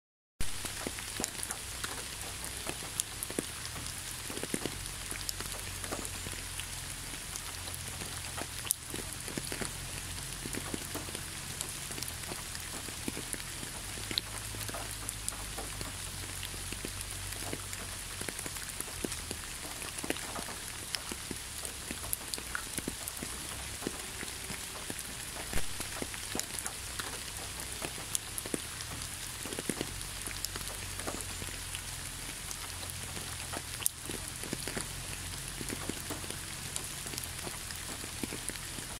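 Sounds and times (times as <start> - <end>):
raindrops ticking close by: 0.4 - 38.9
steady rain hiss: 0.4 - 38.9.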